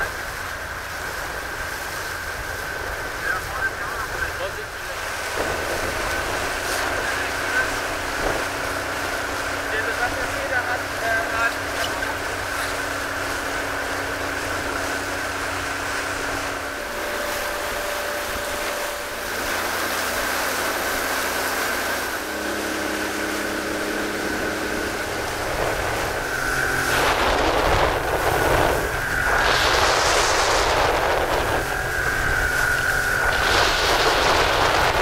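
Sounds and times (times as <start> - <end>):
boat motor running: 0.0 - 35.0
water noise: 0.0 - 35.0
wind buffeting microphone: 0.0 - 35.0.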